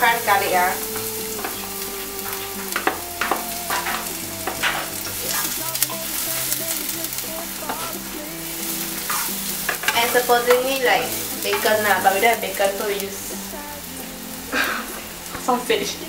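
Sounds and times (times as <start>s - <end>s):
spatula scraping a pan: 0.0s - 15.2s
garlic sizzling in oil: 0.0s - 16.0s.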